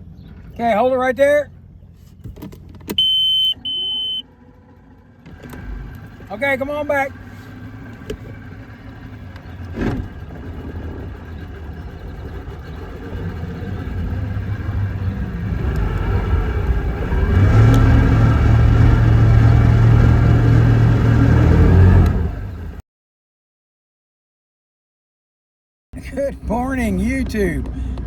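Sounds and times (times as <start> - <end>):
engine running: 1.5 - 22.8, 26.0 - 28.0.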